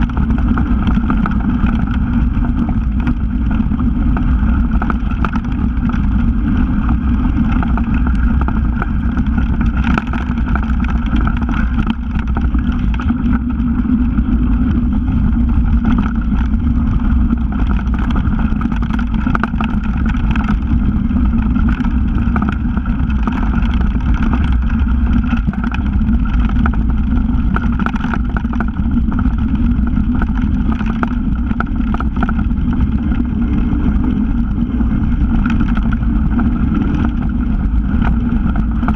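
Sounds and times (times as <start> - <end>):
bike rattling and knocking: 0.0 - 38.9
bike tyres rolling on dirt: 0.0 - 38.9.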